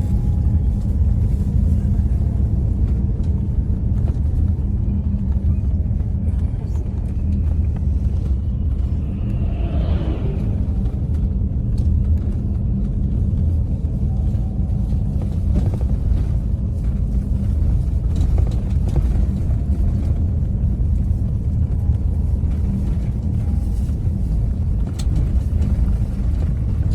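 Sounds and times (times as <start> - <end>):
moving vehicle rumble: 0.0 - 26.9.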